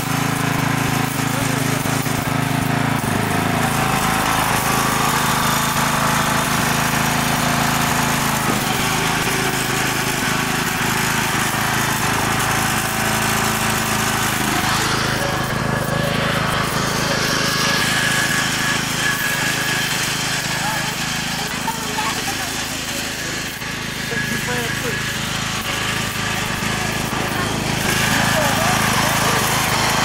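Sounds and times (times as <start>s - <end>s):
riding lawn mower engine: 0.0s - 30.0s.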